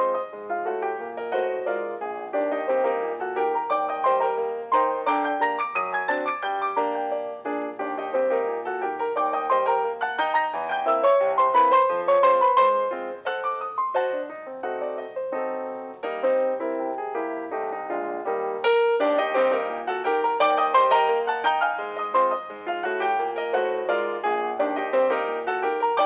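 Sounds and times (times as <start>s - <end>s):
ragtime piano music: 0.0s - 26.0s.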